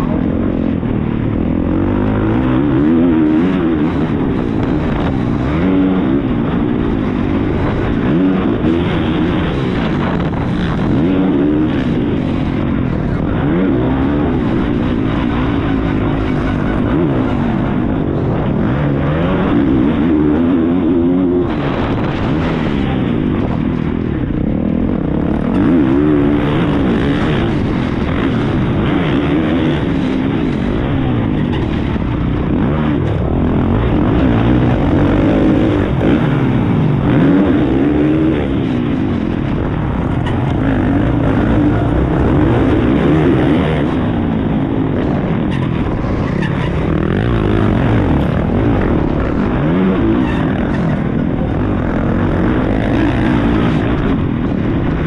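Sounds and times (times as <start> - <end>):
motocross engine revving: 0.0 - 55.0.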